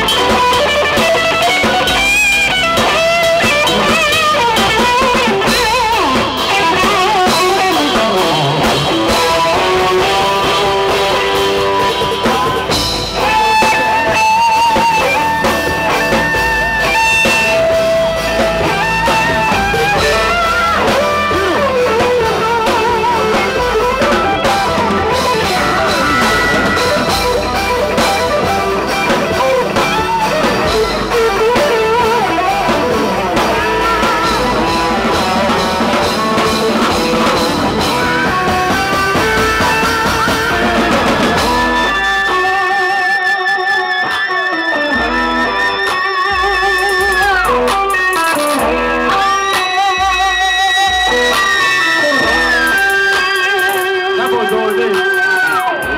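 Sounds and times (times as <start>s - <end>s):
drum kit with cymbals: 0.0s - 55.9s
electric guitar lead: 0.0s - 55.9s.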